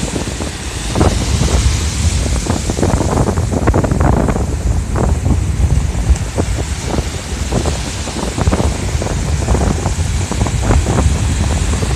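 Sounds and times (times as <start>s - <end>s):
ocean surf breaking: 0.0s - 11.9s
wind buffeting microphone: 0.0s - 11.9s.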